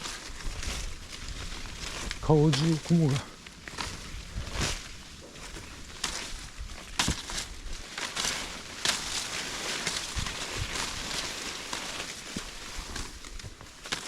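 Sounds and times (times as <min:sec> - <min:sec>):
footsteps crunching on dirt trail: 0:00.0 - 0:14.0
rustling: 0:00.0 - 0:14.0.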